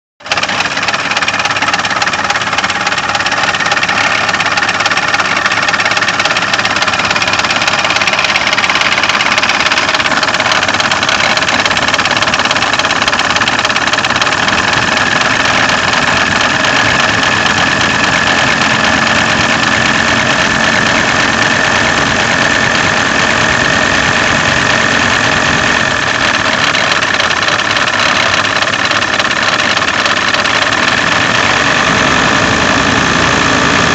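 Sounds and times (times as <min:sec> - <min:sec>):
diesel engine idling with knock: 0:00.2 - 0:33.9
steady whine: 0:00.3 - 0:33.9.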